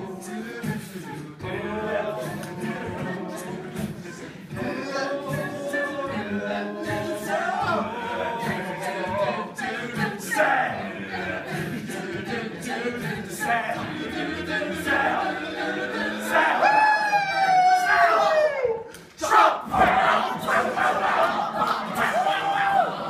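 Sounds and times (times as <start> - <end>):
vocal percussion beat: 0.0 - 16.7, 19.0 - 23.0
a cappella group singing: 0.0 - 18.4, 19.2 - 23.0.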